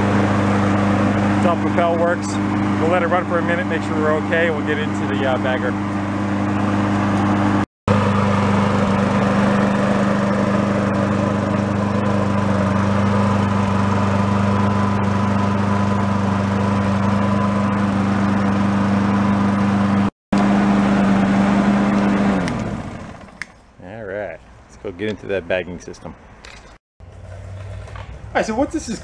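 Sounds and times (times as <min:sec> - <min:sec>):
lawn mower engine running: 0:00.0 - 0:23.7, 0:27.0 - 0:29.0.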